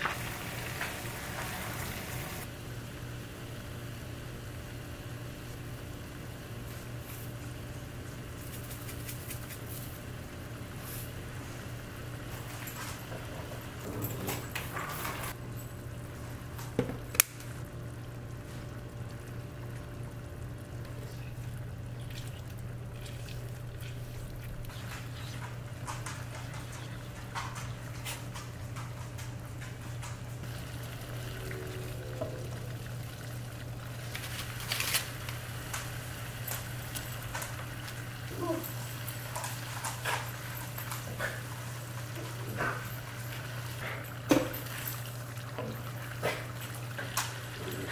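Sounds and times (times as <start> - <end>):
steady low hum: 2.4 - 47.9.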